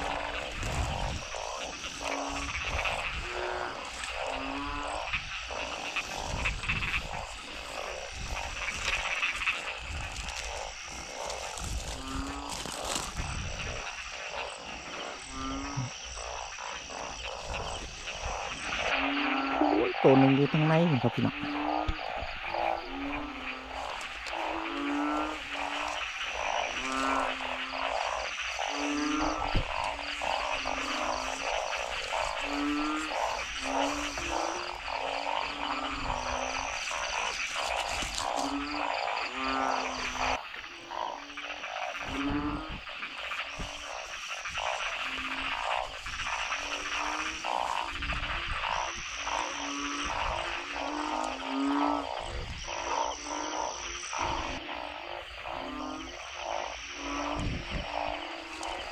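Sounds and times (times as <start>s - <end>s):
frogs calling: 0.0s - 58.9s.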